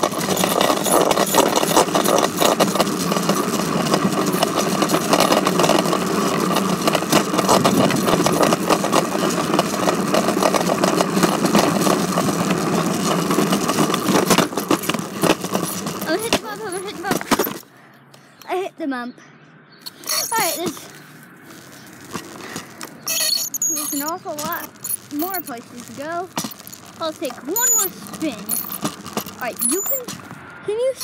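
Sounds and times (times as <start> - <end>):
bike wheels rumbling: 0.0 - 18.4, 19.6 - 31.0
bike rattling and clicking: 0.0 - 18.6, 19.8 - 31.0.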